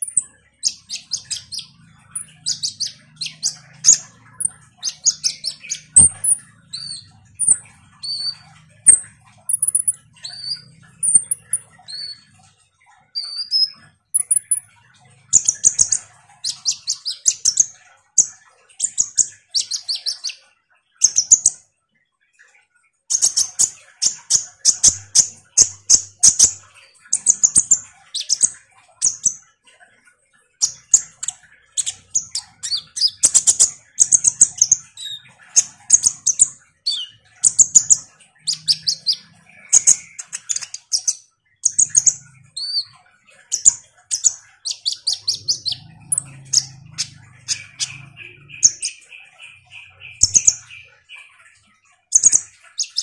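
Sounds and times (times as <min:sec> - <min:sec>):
sunbird chirping song: 0:00.0 - 0:53.0.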